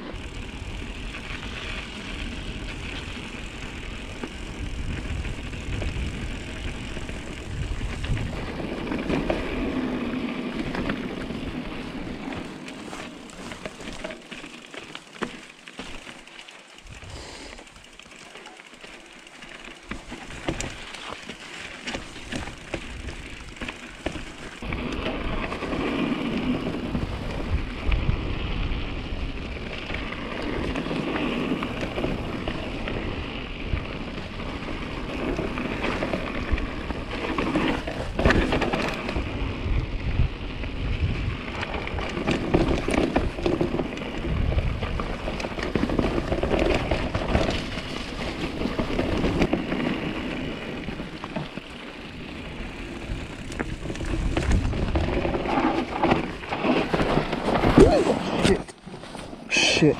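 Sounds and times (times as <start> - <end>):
wind rumbling on microphone: 0.0 - 13.9, 16.8 - 17.6, 21.9 - 59.9
bike rattling over bumps: 0.0 - 59.9
bike tyres crunching over snow: 0.0 - 59.9.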